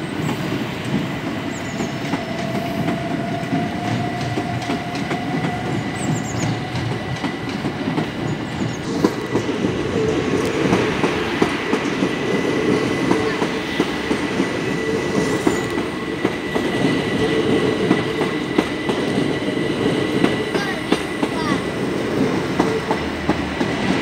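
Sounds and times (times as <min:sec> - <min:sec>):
train hum: 0:00.0 - 0:24.0
train wheels clattering over rail joints: 0:00.0 - 0:24.0.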